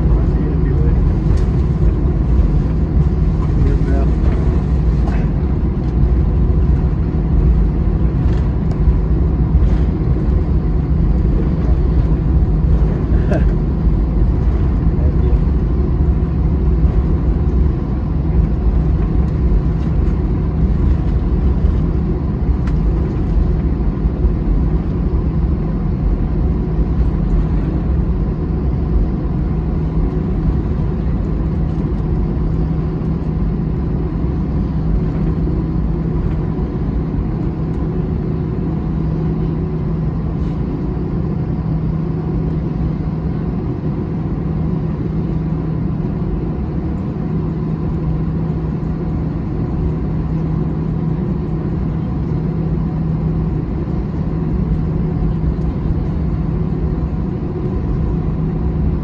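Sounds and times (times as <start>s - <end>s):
jet engines idling hum: 0.0s - 59.0s
low rumble: 0.0s - 59.0s.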